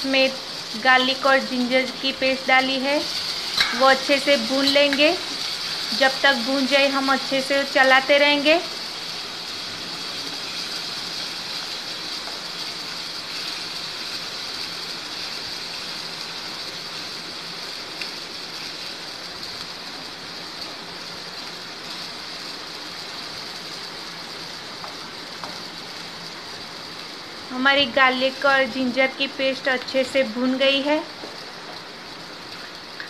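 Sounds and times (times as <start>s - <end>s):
paste sizzling in hot oil: 0.0s - 33.0s.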